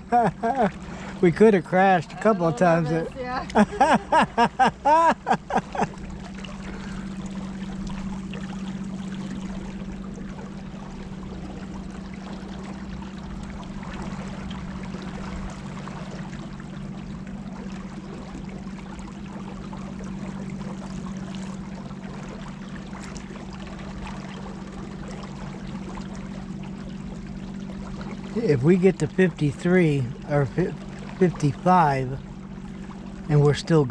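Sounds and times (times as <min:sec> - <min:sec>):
boat motor droning: 0:00.0 - 0:33.9
water splashing along hull: 0:00.0 - 0:33.9.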